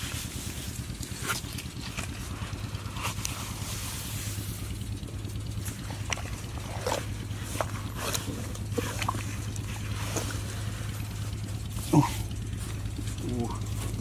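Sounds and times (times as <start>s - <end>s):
steady low hum: 0.0s - 14.0s
wet clicks and crackles of mud: 0.1s - 3.7s, 5.0s - 14.0s.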